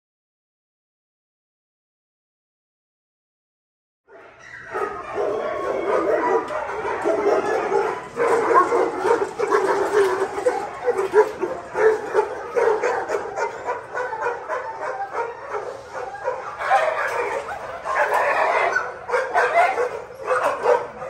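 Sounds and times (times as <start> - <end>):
dogs barking yipping and whining: 4.1 - 21.0.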